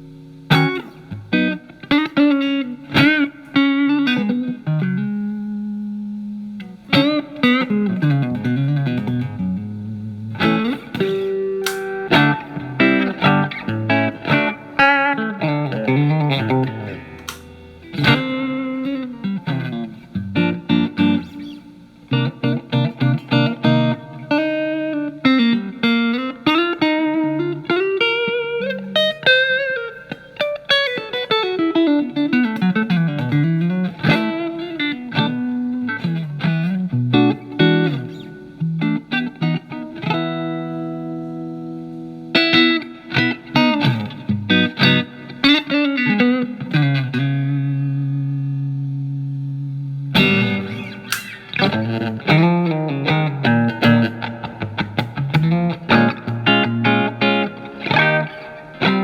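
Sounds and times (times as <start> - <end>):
clean electric guitar with reverb: 0.0 - 59.0.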